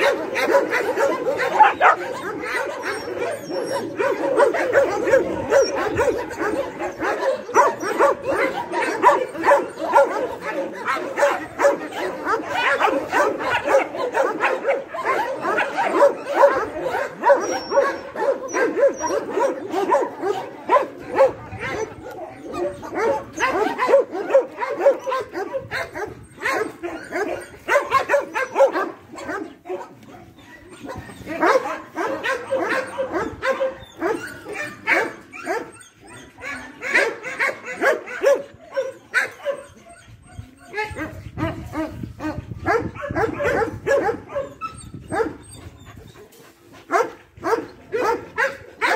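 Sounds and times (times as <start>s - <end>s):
dogs barking: 0.0s - 48.9s.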